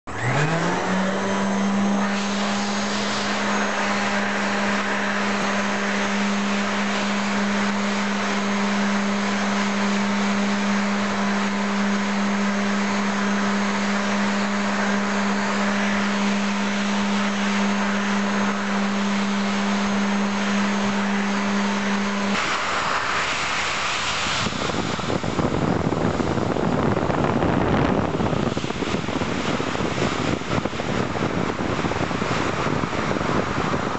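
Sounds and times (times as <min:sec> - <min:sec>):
rushing air: 0:00.1 - 0:33.9
vacuum cleaner motor hum: 0:00.1 - 0:33.9.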